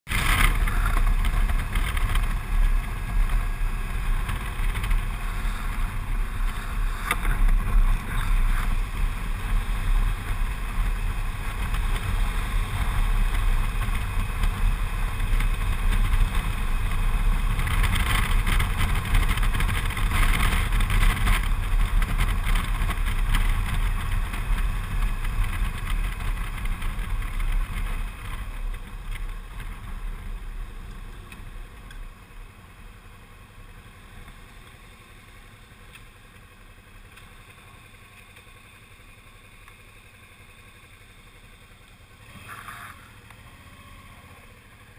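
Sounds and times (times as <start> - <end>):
motorcycle engine and road rumble: 0.0 - 44.9.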